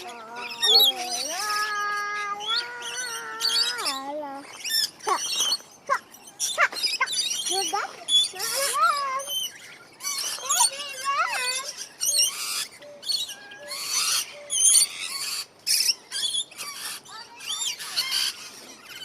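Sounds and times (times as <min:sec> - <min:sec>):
many birds screeching and chirping: 0:00.0 - 0:19.0.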